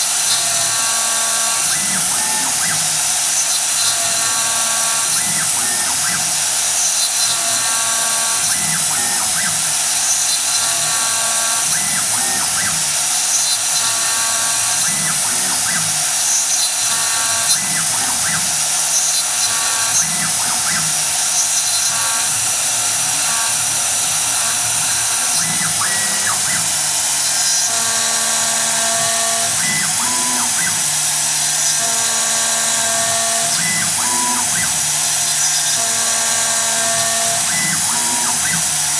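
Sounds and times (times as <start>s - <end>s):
motor tones: 0.0s - 38.9s
router spindle whining: 0.0s - 38.9s.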